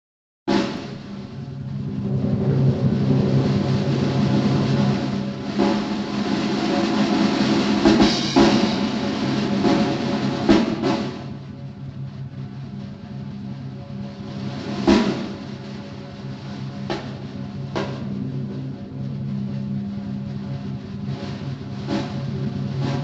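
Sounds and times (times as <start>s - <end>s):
accented drum strikes: 0.5s - 23.0s
drum roll: 0.5s - 23.0s.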